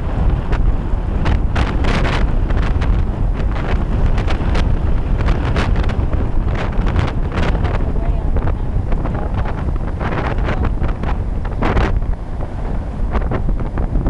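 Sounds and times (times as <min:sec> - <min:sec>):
sharp crackles of gusts: 0:00.0 - 0:14.0
wind buffeting microphone: 0:00.0 - 0:14.0.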